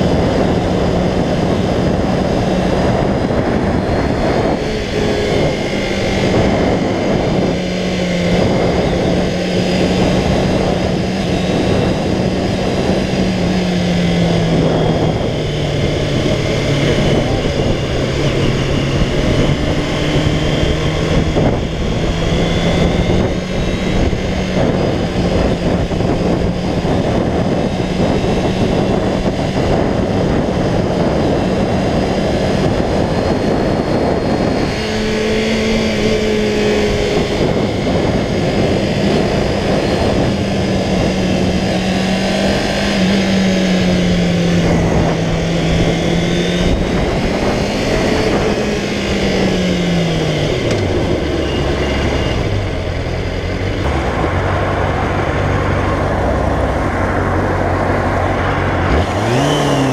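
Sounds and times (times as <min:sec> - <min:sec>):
motorcycle engine cruising: 0:00.0 - 0:59.9
wind rush on microphone: 0:00.0 - 0:59.9.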